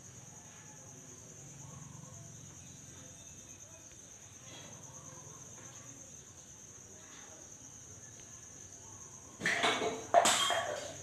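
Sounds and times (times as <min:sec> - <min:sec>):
faint high-pitched hum: 0:00.0 - 0:11.0.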